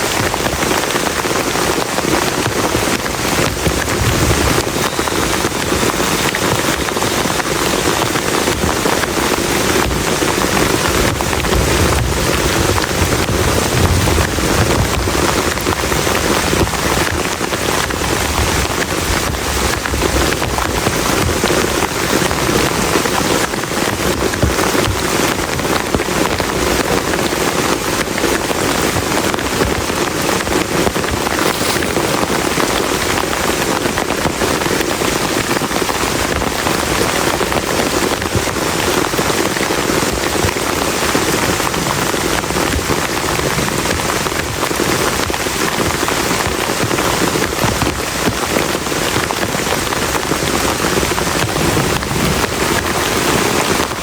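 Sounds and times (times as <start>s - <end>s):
heavy rain on a plastic tarp: 0.0s - 54.0s.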